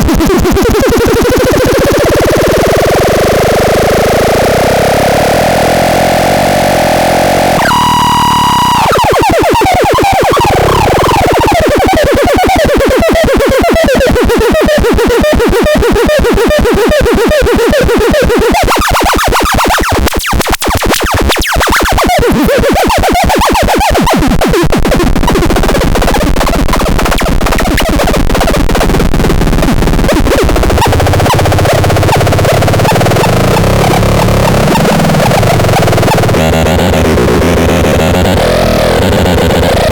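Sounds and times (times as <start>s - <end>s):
harsh synthesized electronic noise: 0.0s - 39.9s.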